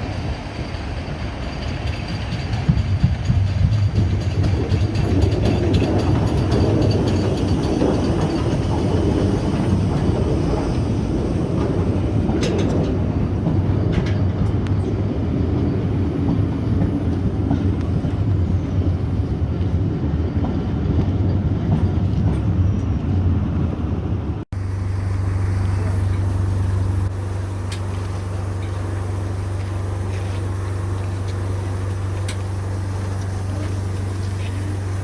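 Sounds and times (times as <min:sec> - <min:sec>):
train rumbling along rails: 0:00.0 - 0:35.0.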